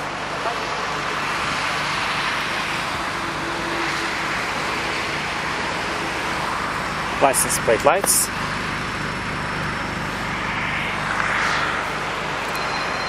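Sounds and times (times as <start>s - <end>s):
exhaust rushing hiss: 0.0s - 12.5s
car engine idling: 0.0s - 13.0s.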